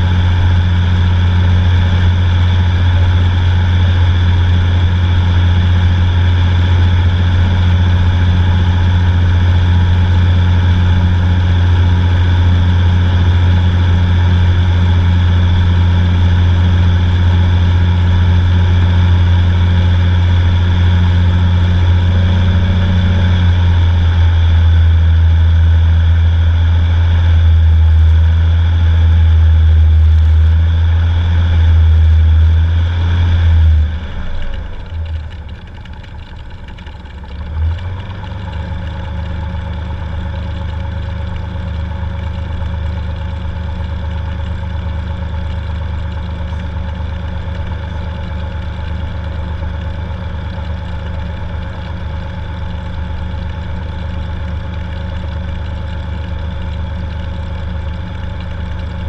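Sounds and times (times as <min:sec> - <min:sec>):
piston aircraft engine running: 0:00.0 - 0:59.0.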